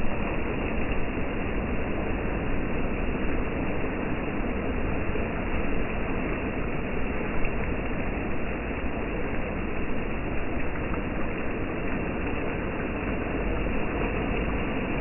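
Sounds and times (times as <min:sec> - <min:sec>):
surf washing over sand: 0:00.0 - 0:15.0.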